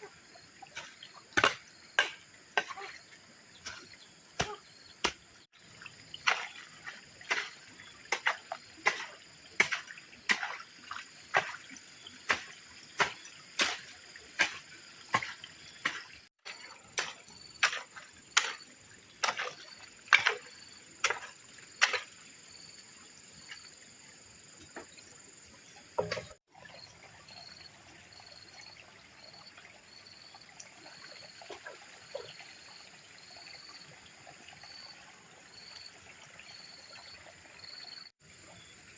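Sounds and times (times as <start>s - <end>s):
insects calling: 0.0s - 38.9s
water trickling: 0.0s - 38.9s.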